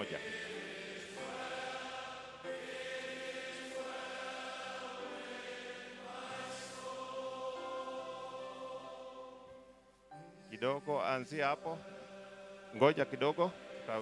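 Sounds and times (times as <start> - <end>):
slow choral hymn music: 0.0 - 14.0.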